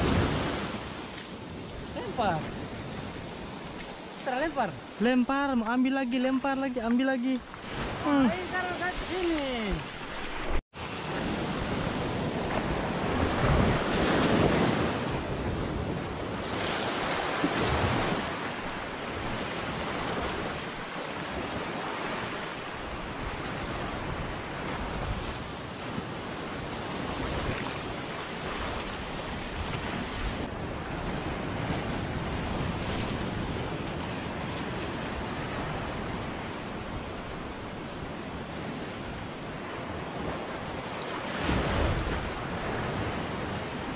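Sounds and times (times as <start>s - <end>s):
wind on microphone: 0.0s - 4.1s, 7.5s - 43.9s
small waves washing on sand: 0.0s - 43.9s.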